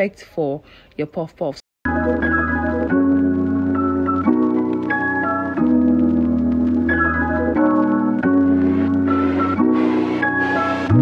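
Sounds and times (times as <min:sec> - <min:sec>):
organ-like keyboard chords: 0:01.9 - 0:11.0.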